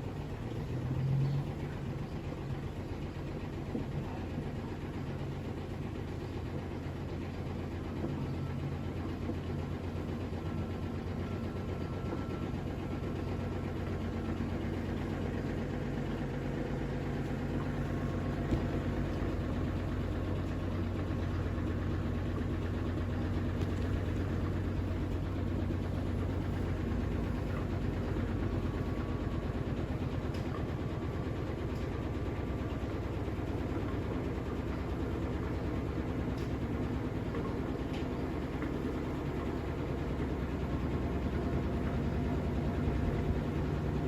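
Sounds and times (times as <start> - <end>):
washing machine running: 0.0 - 44.0.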